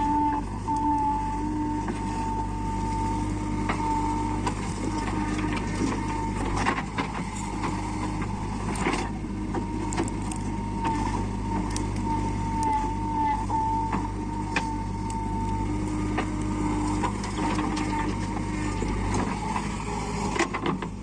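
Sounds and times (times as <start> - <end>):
diesel engine running with whine: 0.0 - 21.0.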